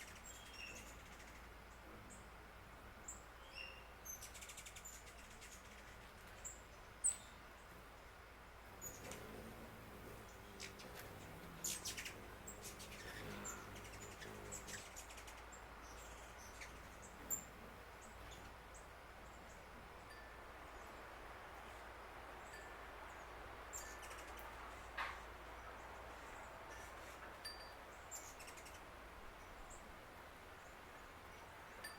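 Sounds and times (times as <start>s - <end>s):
outdoor background hiss: 0.0s - 31.9s
wild birds chirping: 0.0s - 31.9s.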